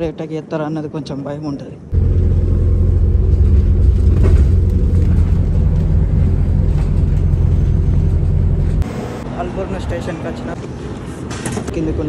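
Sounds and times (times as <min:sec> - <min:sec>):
bus engine rumbling: 0:01.8 - 0:12.0.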